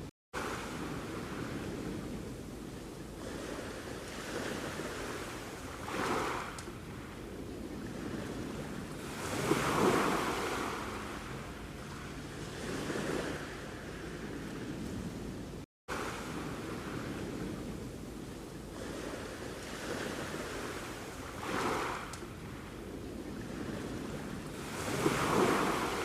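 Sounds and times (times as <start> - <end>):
sea waves washing onto shore: 0.0 - 26.0.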